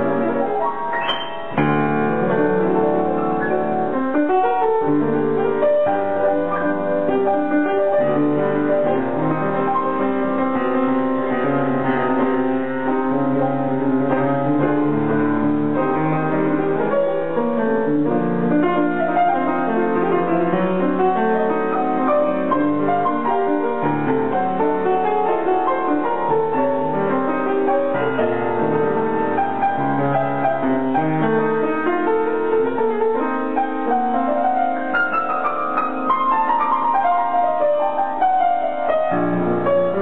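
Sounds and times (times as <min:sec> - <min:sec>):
grand piano playing: 0:00.0 - 0:40.0.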